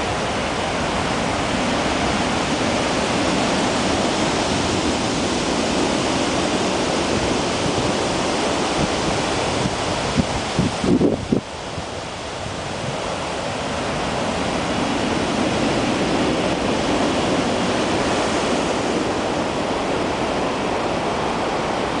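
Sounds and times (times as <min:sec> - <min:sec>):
heavy surf roaring: 0:00.0 - 0:22.0
wind on microphone: 0:00.0 - 0:22.0.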